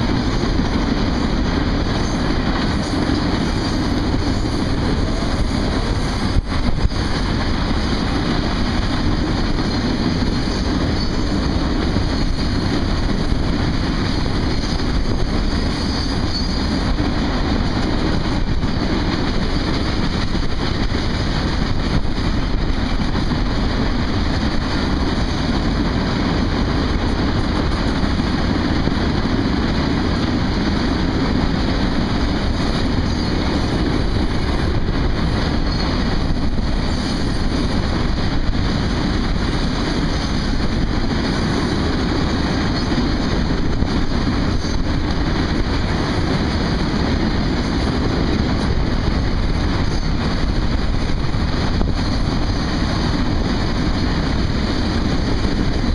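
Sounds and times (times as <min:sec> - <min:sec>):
freight cars rumbling on rails: 0:00.0 - 0:55.9.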